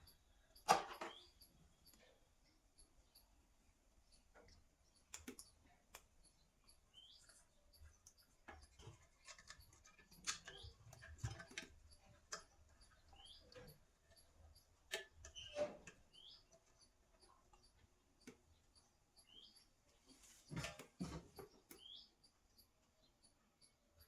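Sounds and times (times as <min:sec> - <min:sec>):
small bird chirping: 0:00.0 - 0:24.0
quiet clicks and light knocks: 0:04.0 - 0:23.7.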